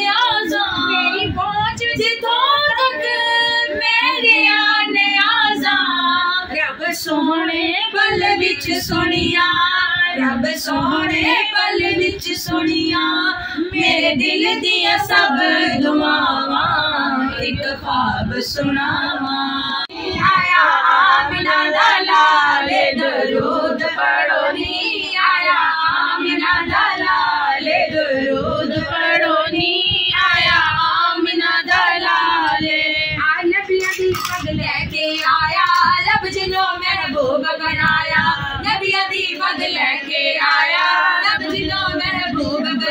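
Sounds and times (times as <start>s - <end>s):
women singing unaccompanied: 0.0s - 42.9s.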